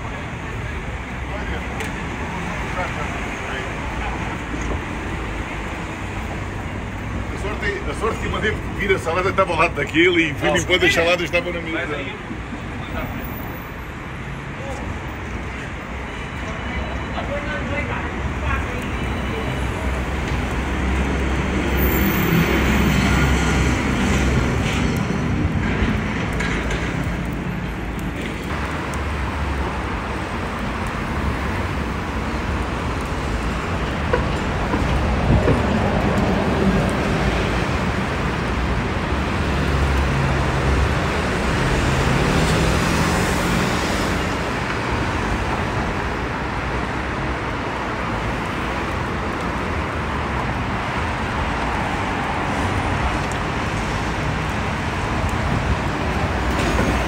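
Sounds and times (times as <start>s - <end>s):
traffic passing: 0.0s - 57.0s.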